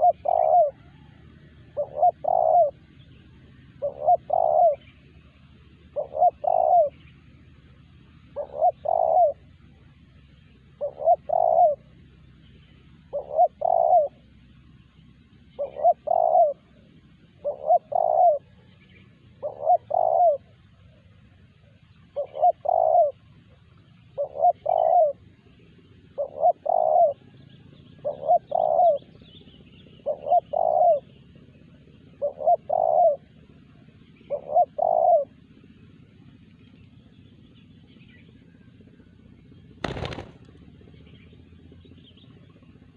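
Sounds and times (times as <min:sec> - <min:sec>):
dove cooing: 0:00.0 - 0:07.5, 0:08.2 - 0:09.8, 0:10.6 - 0:14.5, 0:15.4 - 0:39.0, 0:39.8 - 0:41.2.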